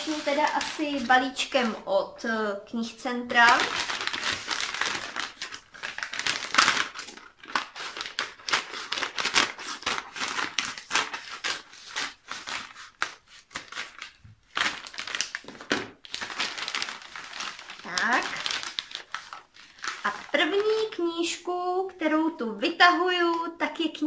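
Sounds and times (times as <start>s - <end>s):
paper envelope crinkling: 0.0s - 1.9s, 3.4s - 21.0s.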